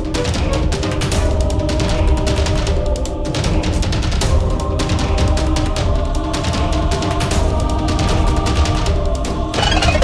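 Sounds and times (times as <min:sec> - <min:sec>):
aggressive music with drums: 0:00.0 - 0:10.0.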